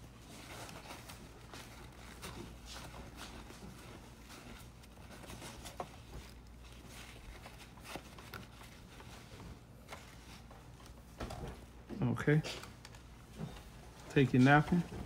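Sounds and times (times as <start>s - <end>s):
paper towel rustling: 0.0s - 15.0s.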